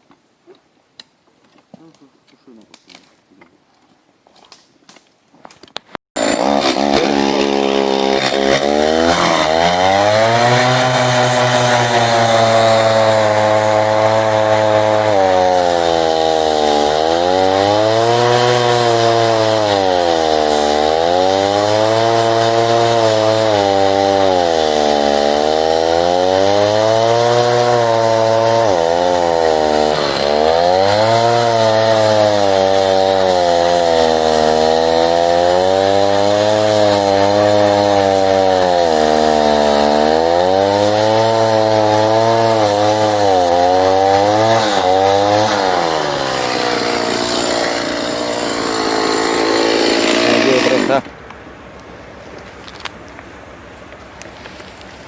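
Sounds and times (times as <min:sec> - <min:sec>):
chainsaw cutting wood: 0:06.2 - 0:51.1.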